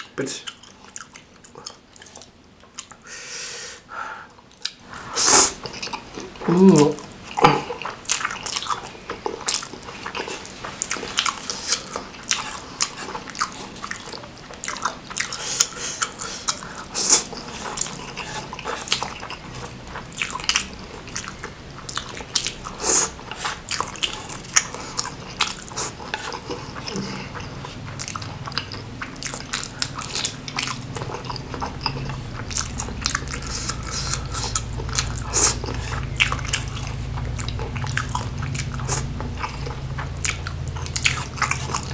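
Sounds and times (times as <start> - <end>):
low steady hum: 0.0 - 41.9
chewing and biting noodles: 7.1 - 41.9.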